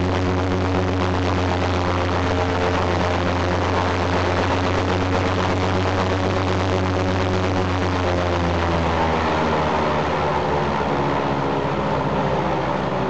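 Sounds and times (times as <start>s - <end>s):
radial piston engine droning: 0.0s - 13.0s.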